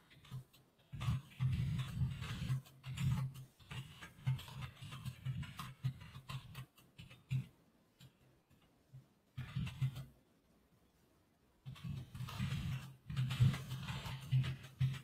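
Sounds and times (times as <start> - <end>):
computer keyboard typing: 0.0 - 8.2, 9.4 - 10.1, 11.7 - 15.0.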